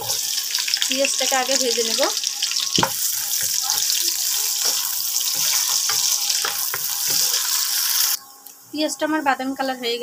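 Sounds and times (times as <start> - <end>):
onions frying in oil: 0.0 - 8.2.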